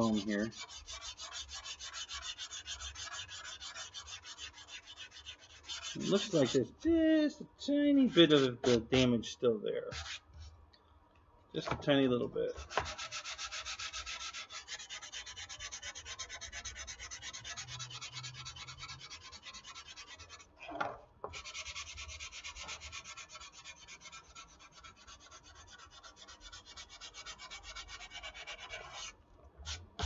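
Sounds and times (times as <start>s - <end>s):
sandpaper rubbing on foam: 0.0s - 6.7s, 8.0s - 9.1s, 9.9s - 10.2s, 12.6s - 20.5s, 21.4s - 29.8s.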